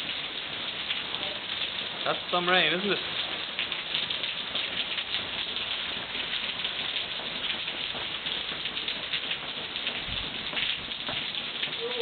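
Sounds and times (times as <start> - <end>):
heavy rain on paving and water: 0.0 - 12.0.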